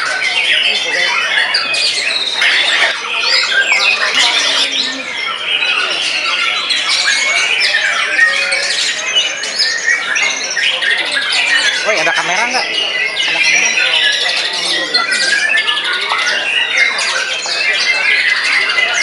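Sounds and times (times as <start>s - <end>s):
bird singing whistles and trills: 0.0s - 19.0s.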